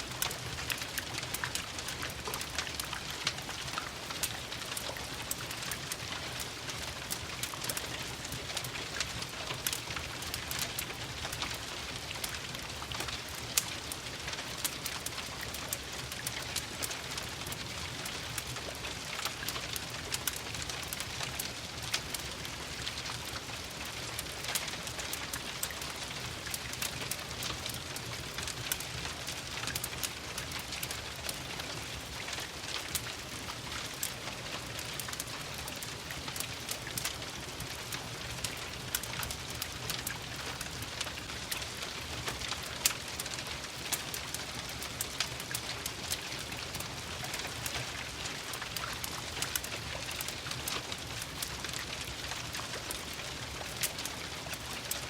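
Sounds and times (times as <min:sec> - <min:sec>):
rain pattering: 0:00.0 - 0:55.0
wood fire crackling: 0:00.0 - 0:55.0.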